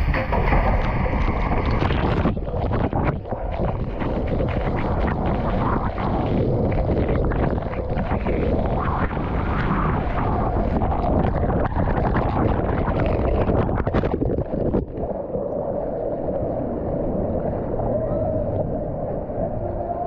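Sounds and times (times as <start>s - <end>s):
rushing water: 0.0s - 20.0s
wind: 0.0s - 20.0s.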